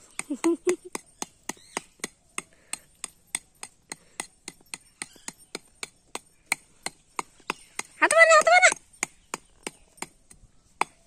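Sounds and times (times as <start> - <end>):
blade chopping sandy earth: 0.0 - 11.0.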